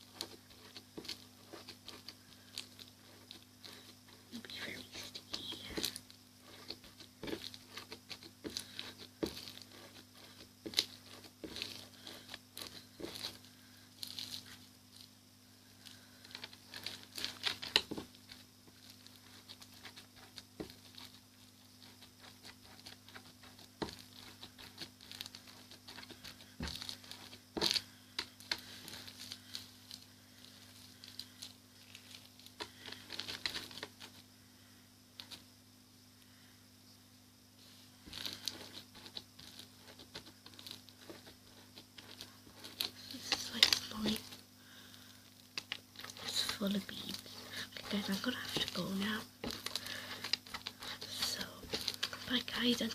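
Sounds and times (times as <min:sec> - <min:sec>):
beaded slime being kneaded: 0:00.0 - 0:15.2, 0:15.8 - 0:34.3, 0:37.6 - 0:52.9.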